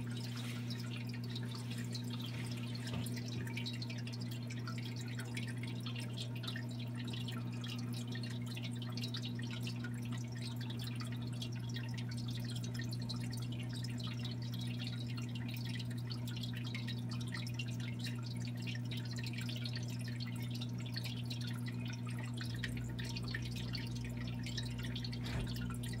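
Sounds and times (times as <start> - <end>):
aquarium water trickling and bubbling: 0.0 - 26.0.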